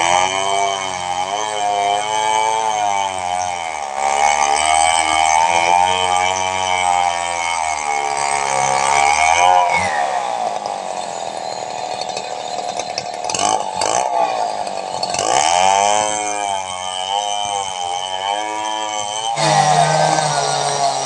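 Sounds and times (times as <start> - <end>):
chainsaw cutting timber: 0.0 - 21.0.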